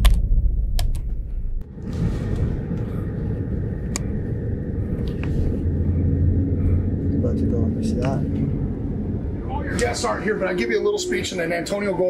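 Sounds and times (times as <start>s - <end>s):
low rumble: 0.0s - 12.0s
car road and engine noise inside: 1.8s - 12.0s.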